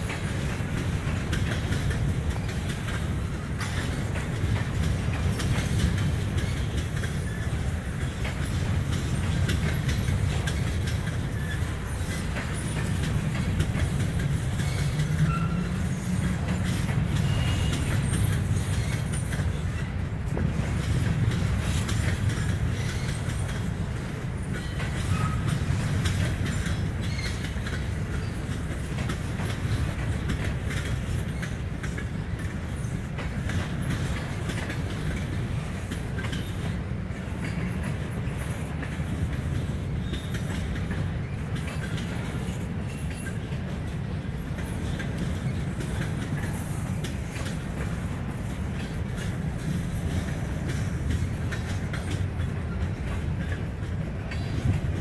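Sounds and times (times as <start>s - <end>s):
freight train cars rumbling: 0.0s - 55.0s.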